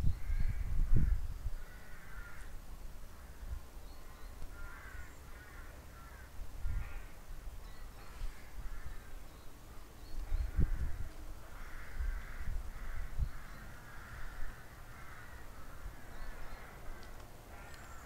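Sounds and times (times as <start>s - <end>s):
crows cawing: 0.2s - 2.6s, 3.2s - 7.3s, 8.0s - 9.2s, 10.4s - 18.0s.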